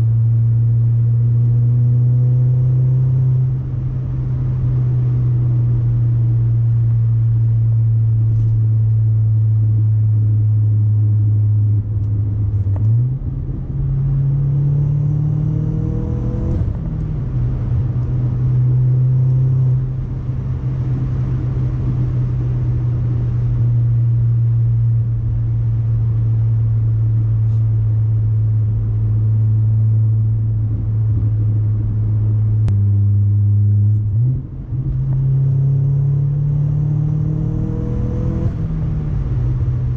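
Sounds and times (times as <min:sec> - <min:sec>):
car engine droning and revving: 0:00.0 - 0:39.9.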